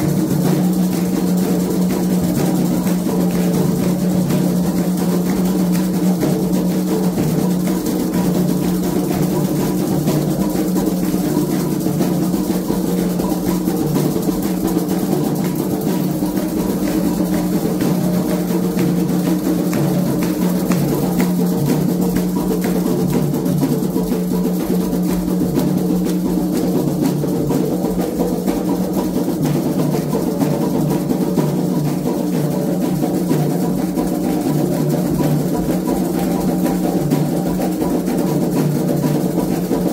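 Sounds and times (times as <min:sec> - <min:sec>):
hand drums playing loud rhythm: 0:00.0 - 0:39.9.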